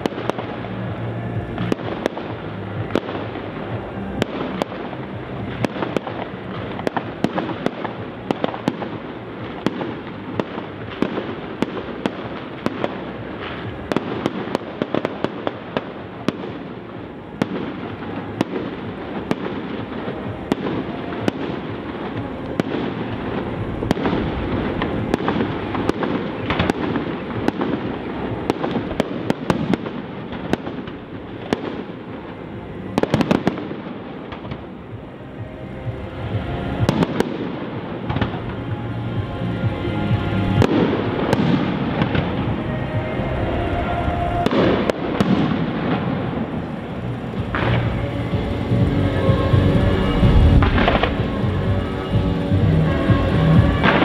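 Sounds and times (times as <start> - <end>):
continuous background noise: 0.0 - 54.0
fireworks bangs: 0.0 - 54.0.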